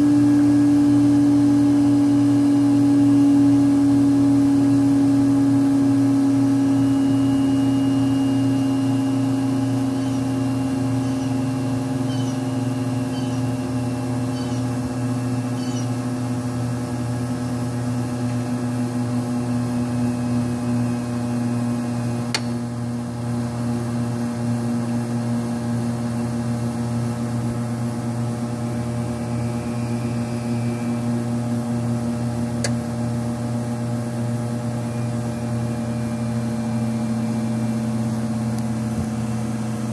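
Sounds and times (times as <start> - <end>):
centrifuge hum: 0.0 - 23.8, 27.1 - 39.9.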